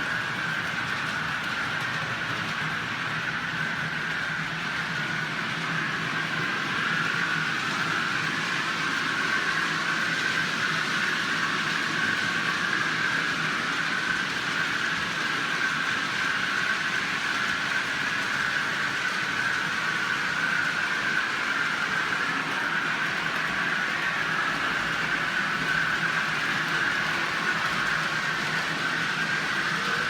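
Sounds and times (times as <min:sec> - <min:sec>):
model trains whirring on track: 0:00.0 - 0:30.0.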